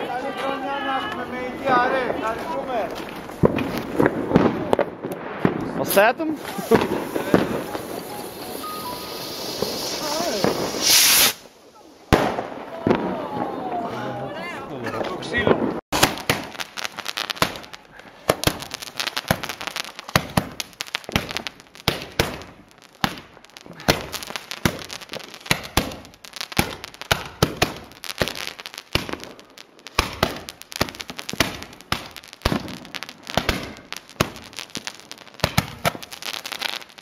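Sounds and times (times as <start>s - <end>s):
firecrackers banging: 0.0s - 14.2s, 14.8s - 37.0s.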